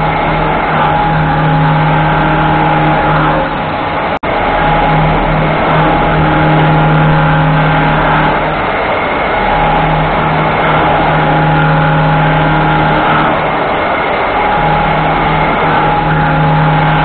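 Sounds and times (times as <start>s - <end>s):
low hum: 0.0s - 17.0s
machine whine: 0.0s - 17.0s.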